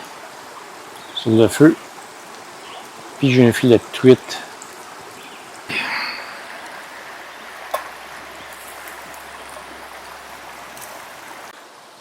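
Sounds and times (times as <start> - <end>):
food sizzling on campfire: 0.0 - 12.0.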